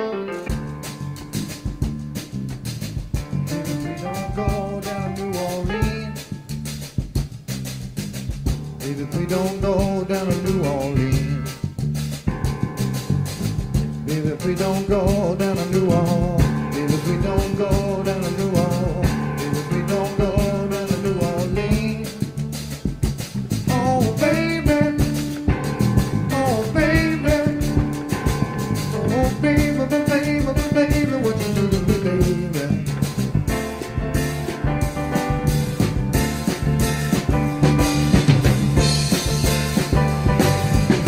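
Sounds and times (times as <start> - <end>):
song with vocals guitar and drums: 1.7 - 6.7, 8.7 - 41.0.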